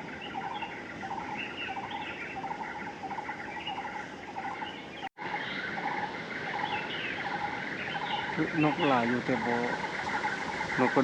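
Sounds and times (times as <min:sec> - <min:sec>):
small birds chattering: 0:00.0 - 0:11.0.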